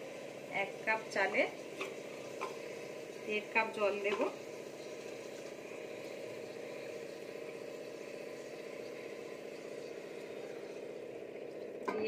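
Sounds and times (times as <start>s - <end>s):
cooker humming and sizzling: 0.0s - 12.0s
water pouring into pot: 0.0s - 12.0s.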